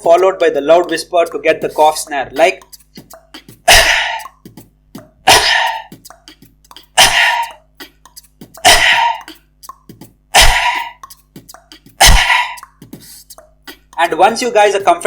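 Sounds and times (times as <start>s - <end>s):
beatboxed cough snare: 0.0s - 15.0s
mouth clicks: 0.8s - 14.4s.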